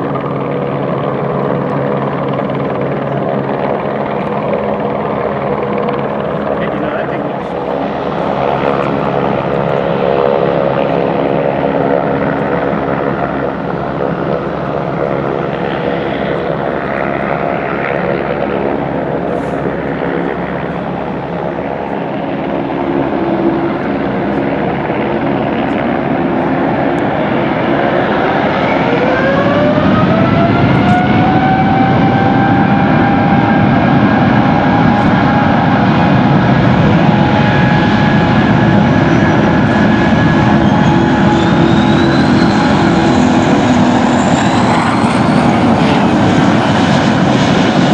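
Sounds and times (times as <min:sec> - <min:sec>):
jet engine whine rising: 0:00.0 - 0:47.9
jet engines droning: 0:00.0 - 0:47.9.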